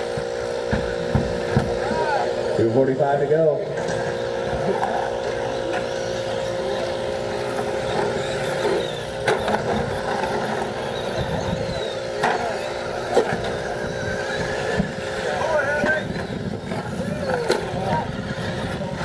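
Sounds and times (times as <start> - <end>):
rc truck motor whine and tyres: 0.0 - 19.0.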